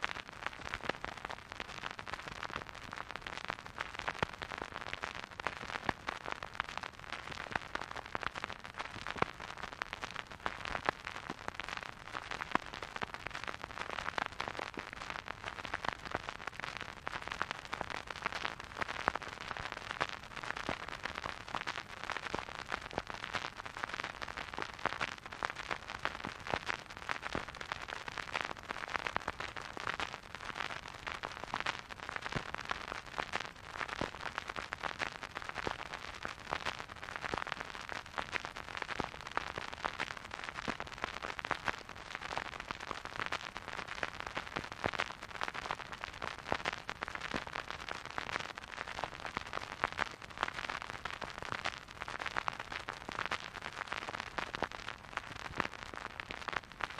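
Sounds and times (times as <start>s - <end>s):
vinyl crackles and pops: 0.0s - 56.9s
vinyl record hiss: 0.0s - 56.9s.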